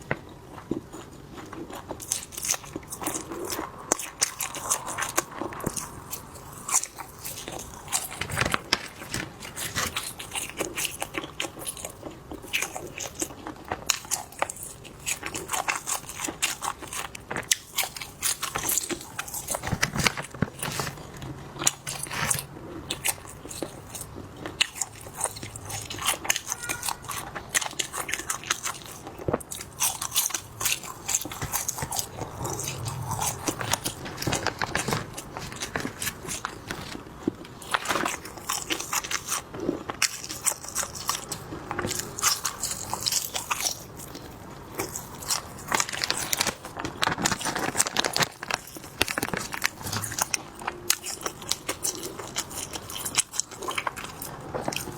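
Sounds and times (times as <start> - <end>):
biting and chewing: 0.0 - 54.9
crisp crunches: 0.6 - 54.9.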